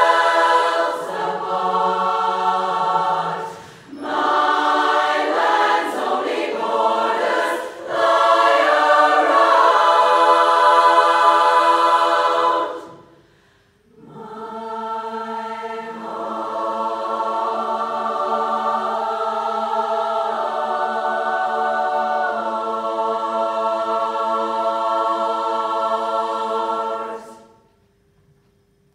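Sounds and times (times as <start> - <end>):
women's chorus singing a cappella: 0.0 - 13.3, 13.9 - 27.7.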